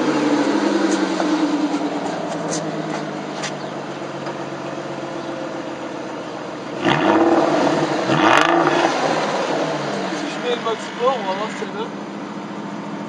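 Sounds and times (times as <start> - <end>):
car engine idling: 0.0 - 13.0
engine throttle blips: 0.0 - 13.0.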